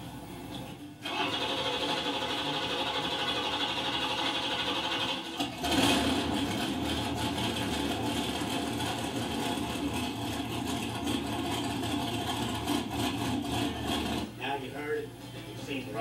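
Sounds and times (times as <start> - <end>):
engine starting and running: 0.0 - 14.5.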